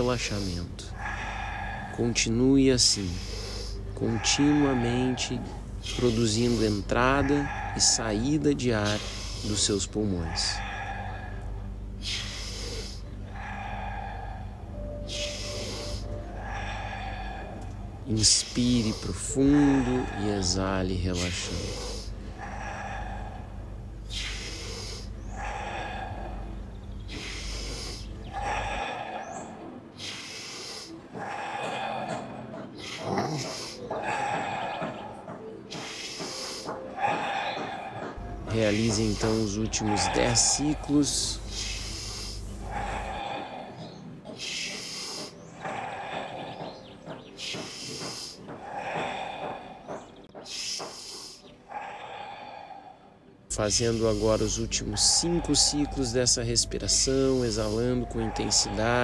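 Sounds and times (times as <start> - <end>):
person breathing forcefully: 0.0 - 59.0.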